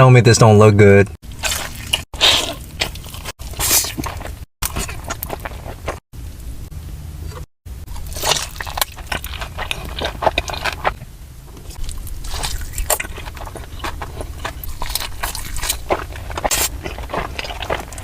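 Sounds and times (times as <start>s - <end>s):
crunching fried chicken: 1.2s - 6.0s, 7.8s - 18.0s.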